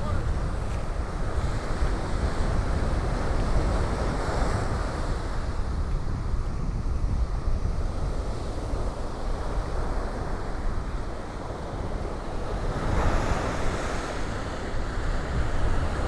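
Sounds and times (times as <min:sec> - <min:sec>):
surf breaking on beach: 0:00.0 - 0:16.0
wind rumble on microphone: 0:00.0 - 0:16.0.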